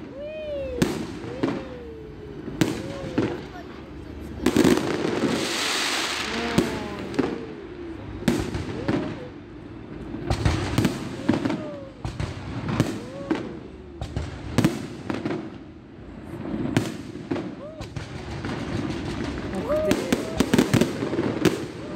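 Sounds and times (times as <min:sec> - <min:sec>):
fireworks bursting: 0:00.0 - 0:21.9.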